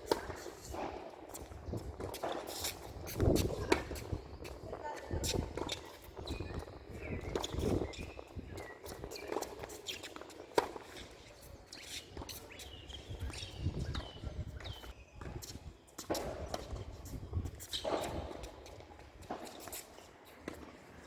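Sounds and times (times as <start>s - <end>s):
footsteps on tennis court: 0.0s - 21.0s
shoe squeaks: 0.0s - 21.0s.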